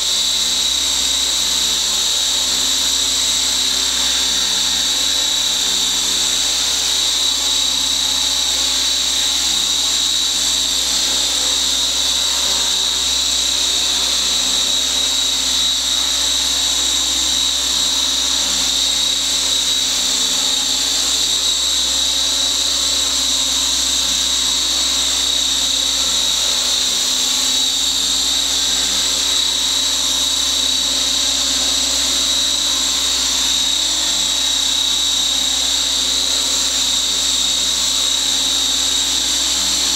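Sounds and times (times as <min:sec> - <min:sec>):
rc helicopter high-pitched whine: 0:00.0 - 0:39.9.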